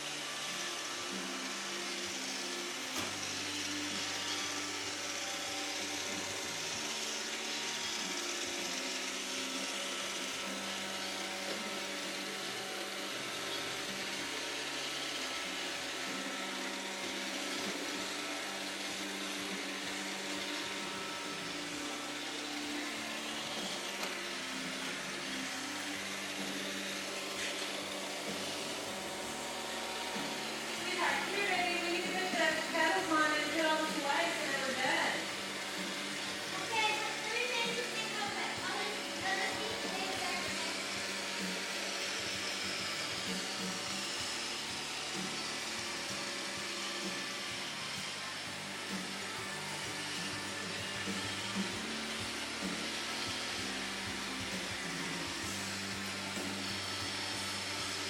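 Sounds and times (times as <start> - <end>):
robot vacuum whirring: 0.0 - 58.0.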